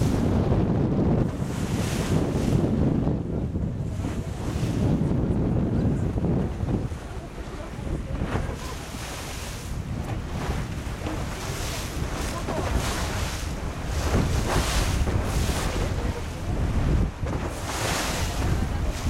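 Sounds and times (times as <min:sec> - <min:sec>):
sea water splashing along hull: 0:00.0 - 0:19.0
wind buffeting microphone: 0:00.0 - 0:19.0.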